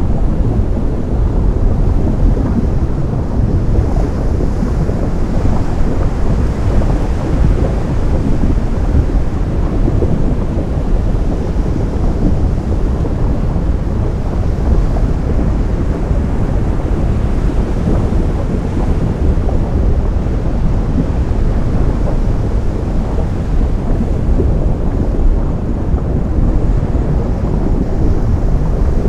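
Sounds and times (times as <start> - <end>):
surf roaring with crackle: 0.0 - 29.0.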